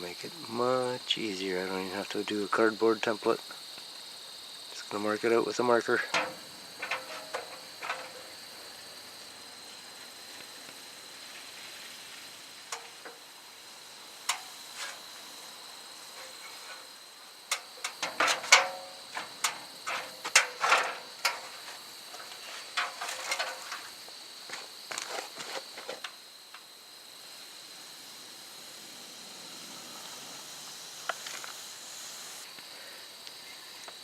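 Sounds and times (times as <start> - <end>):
faint steady background noise: 0.0 - 34.0.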